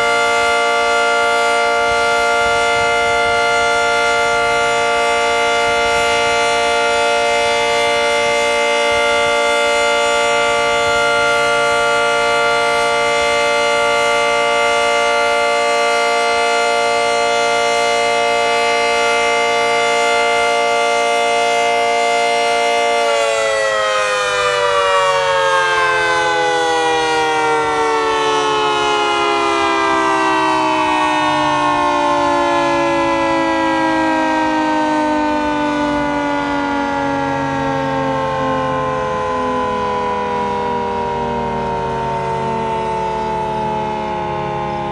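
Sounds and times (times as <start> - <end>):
two-tone warning siren: 0.0 - 44.9.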